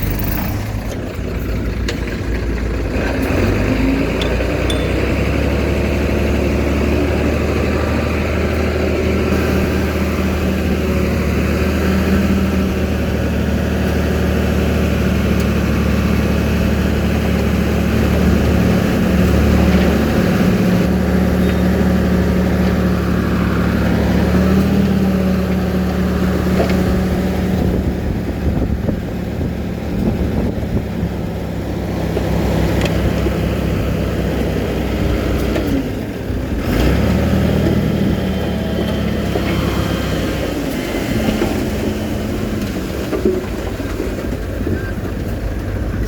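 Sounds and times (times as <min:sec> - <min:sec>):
heavy diesel engine under load: 0:00.0 - 0:46.0.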